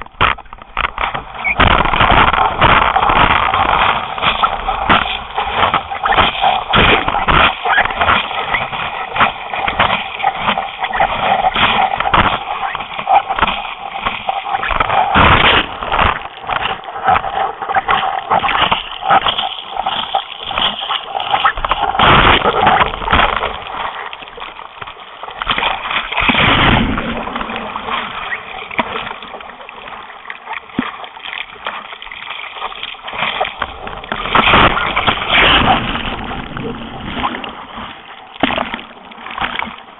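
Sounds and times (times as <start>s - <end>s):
seawater splashing over a board: 0.0s - 39.9s.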